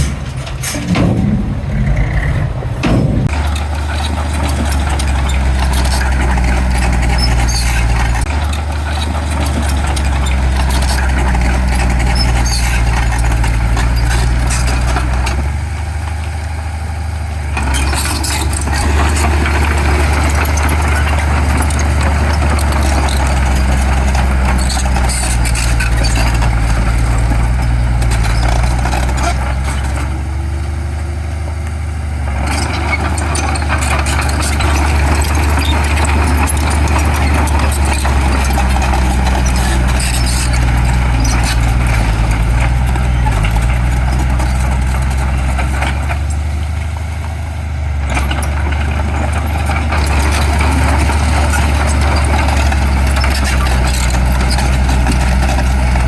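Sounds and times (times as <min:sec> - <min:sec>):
clatter: 0:00.0 - 0:16.6, 0:17.5 - 0:31.0, 0:31.6 - 0:47.4, 0:48.0 - 0:56.0
heavy diesel engine under load: 0:00.0 - 0:56.0.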